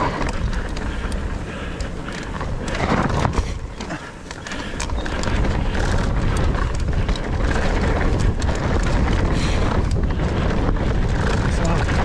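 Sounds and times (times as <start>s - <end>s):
wind rushing over microphone: 0.0s - 3.8s, 4.4s - 12.0s
stones and bike rattling: 0.0s - 12.0s
tyres rolling on stony trail: 0.0s - 12.0s.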